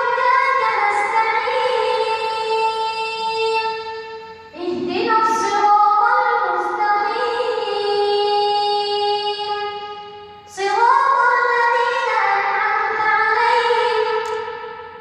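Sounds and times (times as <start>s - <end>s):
person reciting melodically: 0.0s - 14.4s.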